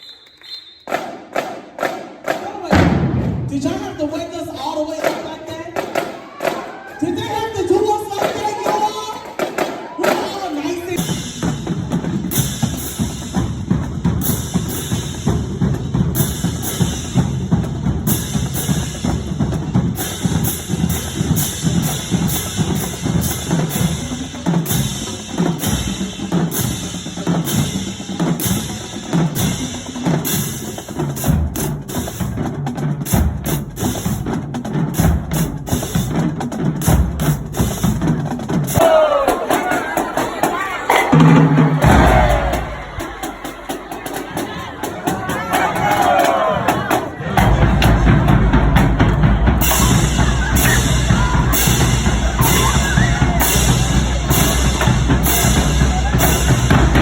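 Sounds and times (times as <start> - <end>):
drumline playing a cadence: 0.0 - 4.2, 8.2 - 57.0.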